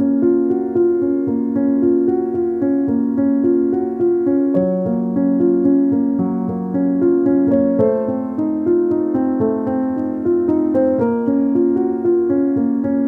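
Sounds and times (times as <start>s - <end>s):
instrumental music sustained notes: 0.0s - 13.0s.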